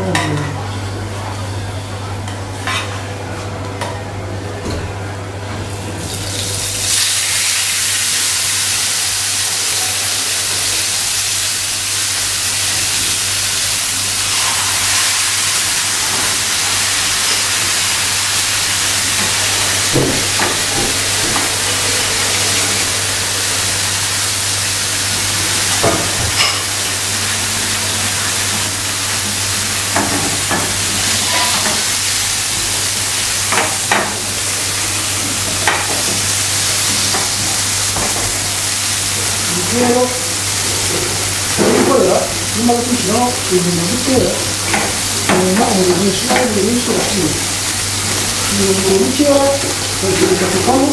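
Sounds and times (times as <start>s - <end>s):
fish sizzling in oil: 5.8s - 50.9s.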